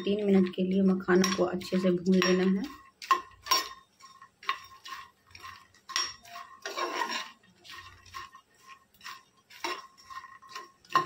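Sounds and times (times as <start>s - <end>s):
metal spoon scraping a metal pan: 0.0s - 11.0s.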